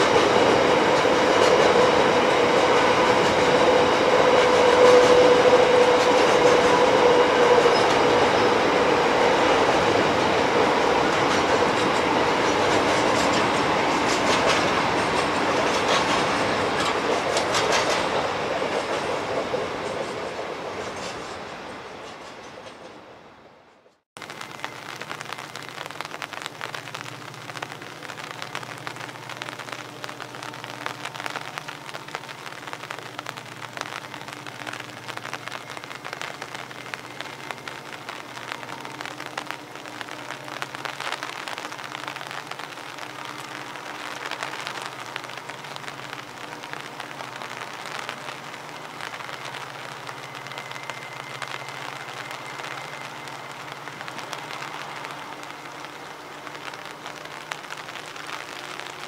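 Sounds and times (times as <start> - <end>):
rain pattering: 0.0 - 22.9, 24.2 - 59.0.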